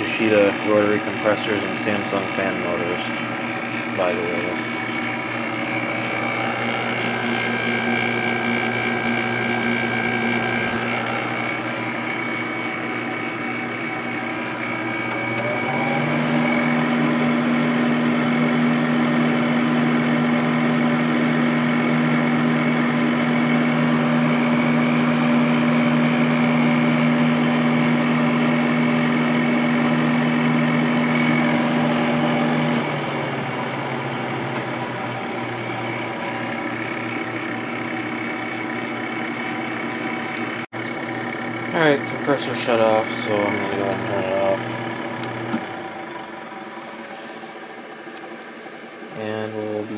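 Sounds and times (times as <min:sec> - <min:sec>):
compressor humming: 0:00.0 - 0:49.9.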